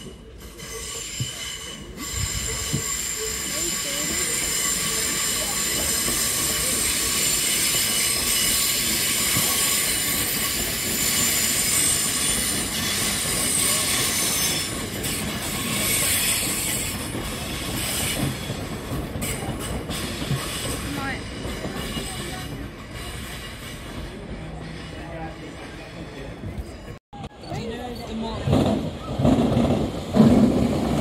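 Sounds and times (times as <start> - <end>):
train wheels squealing: 0.0 - 28.4
train wheels rumbling on rails: 0.0 - 31.0.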